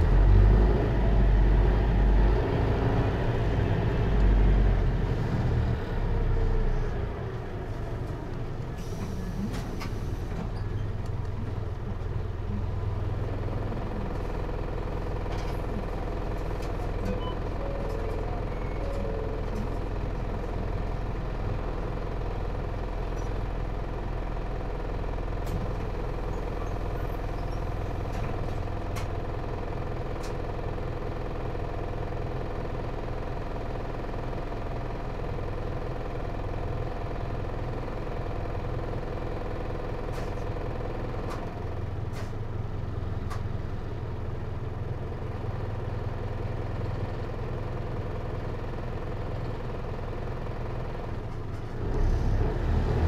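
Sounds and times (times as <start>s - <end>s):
diesel engine running at low revs: 0.0s - 53.0s.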